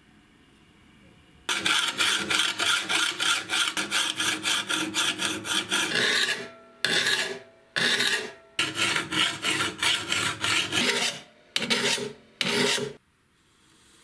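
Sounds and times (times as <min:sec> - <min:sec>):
file rasping on metal blade: 0:01.5 - 0:13.0.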